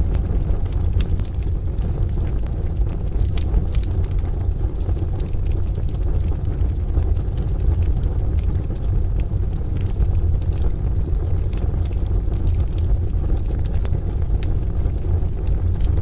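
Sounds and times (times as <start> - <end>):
low rumble: 0.0 - 16.0
wood fire crackling and popping: 0.0 - 16.0.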